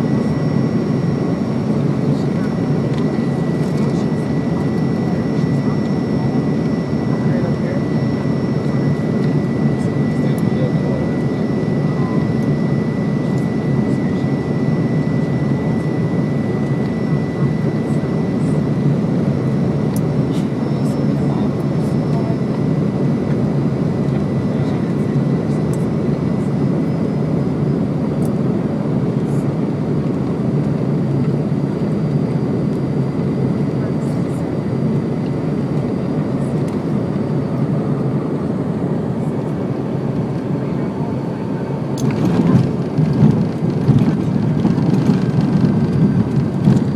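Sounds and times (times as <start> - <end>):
airplane rumble: 0.0 - 46.9.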